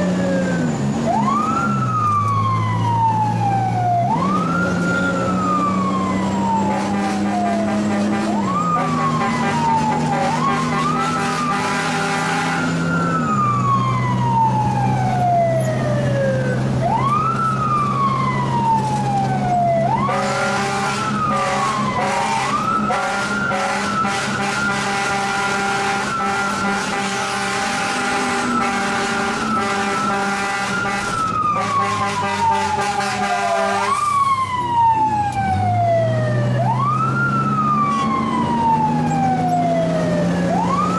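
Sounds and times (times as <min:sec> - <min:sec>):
truck engine droning: 0:00.0 - 0:40.9.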